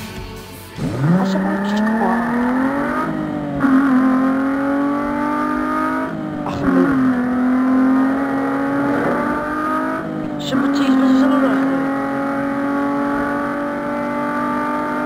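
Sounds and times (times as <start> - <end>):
car engine accelerating: 0.6 - 15.0.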